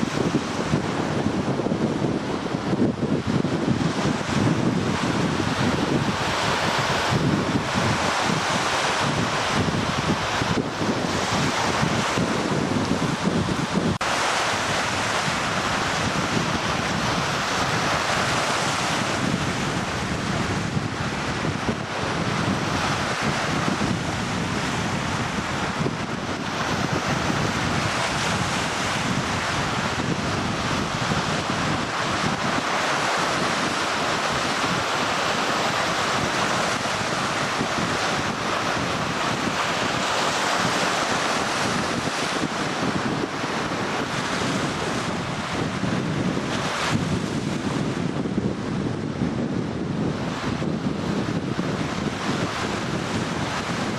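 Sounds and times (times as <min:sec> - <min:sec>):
waves breaking on shore: 0:00.0 - 0:53.9
wind buffeting microphone: 0:00.0 - 0:53.9.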